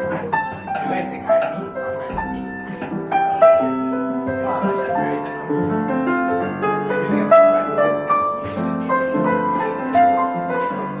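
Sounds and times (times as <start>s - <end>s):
jazz piano playing: 0.0s - 11.0s.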